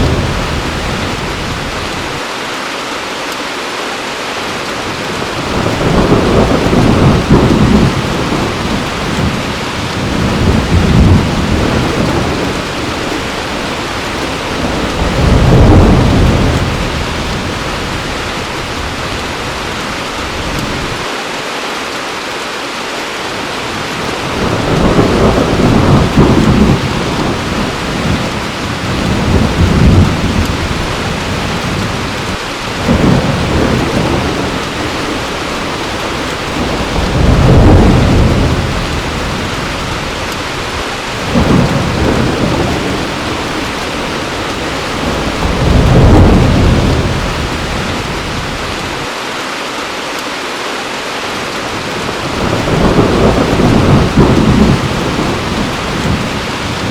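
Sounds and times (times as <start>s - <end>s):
thunder rumbling: 0.0s - 2.2s, 4.9s - 21.1s, 23.8s - 49.1s, 51.7s - 56.9s
heavy rain falling: 0.0s - 56.9s.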